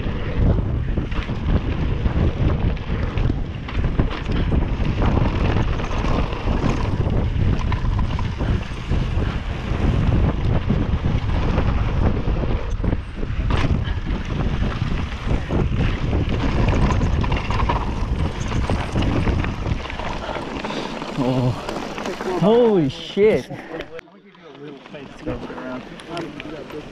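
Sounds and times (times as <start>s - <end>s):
wind buffeting microphone: 0.0s - 22.7s
bike tyres rumbling on dirt: 0.0s - 23.3s.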